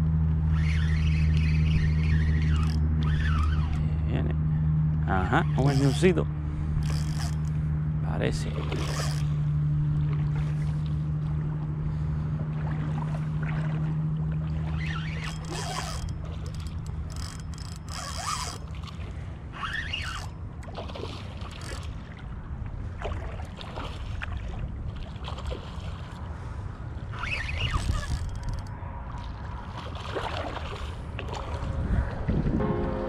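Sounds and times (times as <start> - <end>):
boat motor droning: 0.0 - 24.9, 26.2 - 29.6, 32.6 - 33.0.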